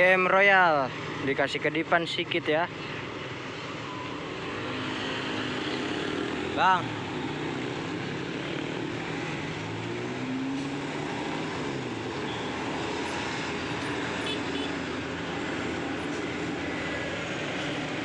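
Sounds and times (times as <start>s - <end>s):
roadside traffic noise: 0.0s - 18.0s.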